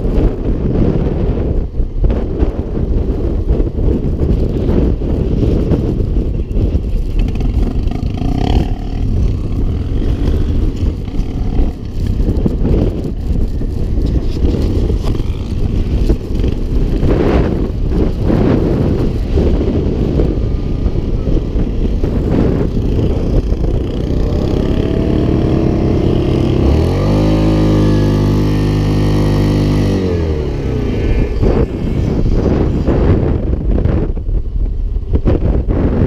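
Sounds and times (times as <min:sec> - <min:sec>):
quad bike engine running: 0:00.0 - 0:36.0
wind buffeting microphone: 0:00.0 - 0:36.0.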